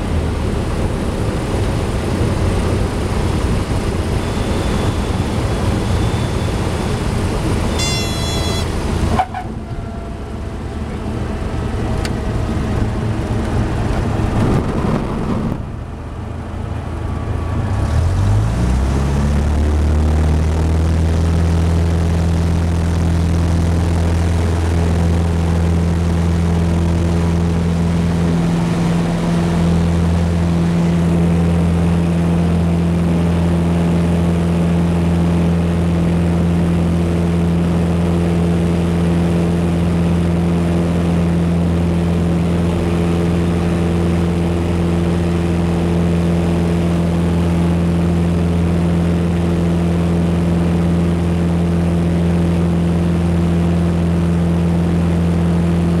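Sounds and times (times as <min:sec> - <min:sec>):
airplane engine and propeller: 0:00.0 - 0:56.0.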